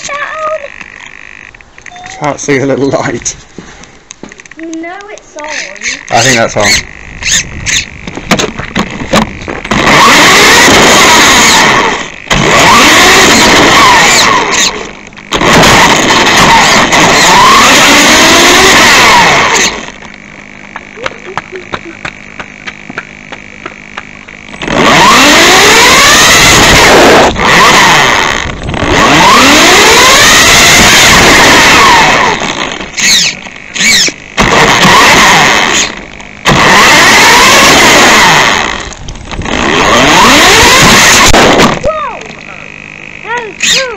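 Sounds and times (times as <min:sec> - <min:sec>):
toy car motor whining: 0:00.0 - 0:03.0, 0:05.4 - 0:20.0, 0:24.6 - 0:42.4, 0:43.2 - 0:43.9
tyre and road noise: 0:00.0 - 0:43.9.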